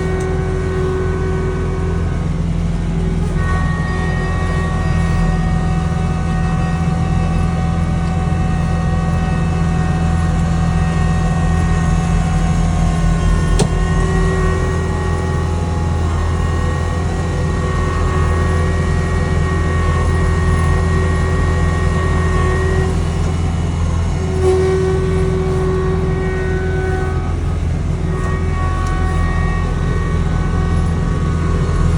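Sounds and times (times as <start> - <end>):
held whine: 0.0 - 31.9
snow blower engine running: 0.0 - 31.9.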